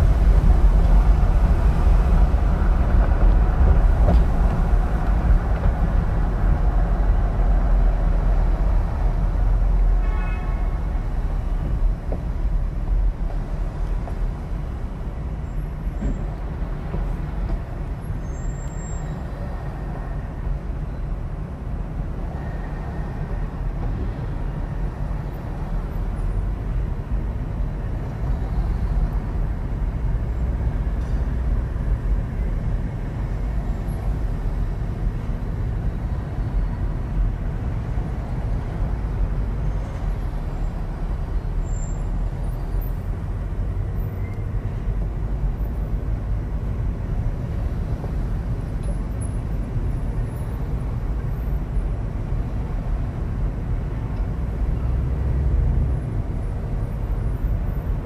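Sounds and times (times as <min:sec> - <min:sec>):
car interior engine and tyre noise: 0:00.0 - 0:58.0.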